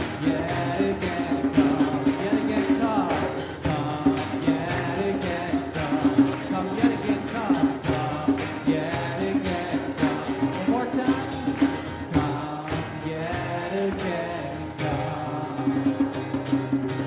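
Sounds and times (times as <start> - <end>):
hand drum beat: 0.0 - 17.0
people singing: 0.0 - 17.0
pitched acoustic instruments: 0.0 - 17.0.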